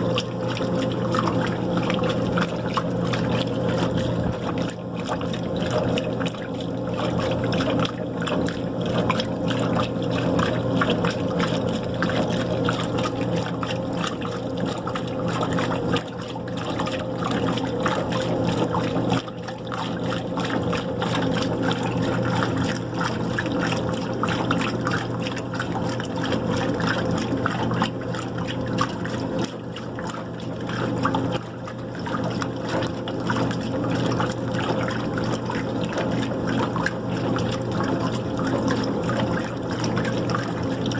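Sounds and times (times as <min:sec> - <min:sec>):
motor hum: 0:00.0 - 0:40.9
water sloshing in washing machine: 0:00.0 - 0:40.9.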